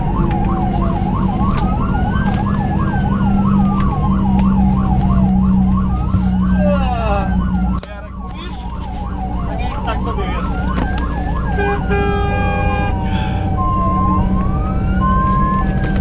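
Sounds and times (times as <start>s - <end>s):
fast yelping siren: 0.0s - 16.0s
slow wailing siren: 0.0s - 16.0s
truck engine drone: 0.0s - 16.0s.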